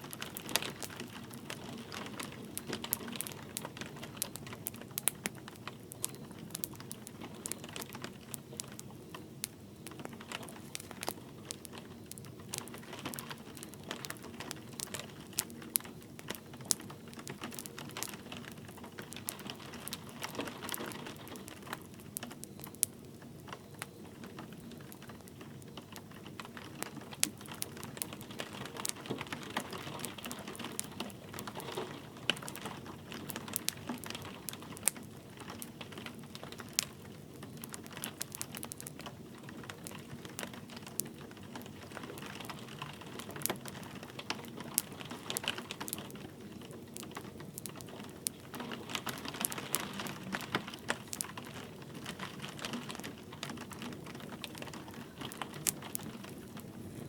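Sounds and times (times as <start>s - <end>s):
light rain hiss: 0.0s - 57.0s
wood fire crackling and popping: 0.0s - 57.0s.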